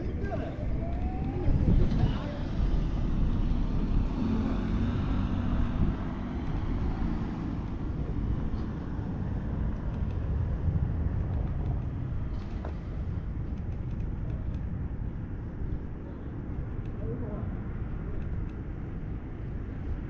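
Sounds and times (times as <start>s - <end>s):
road traffic rumble: 0.0s - 20.0s
wind on microphone: 0.0s - 20.0s.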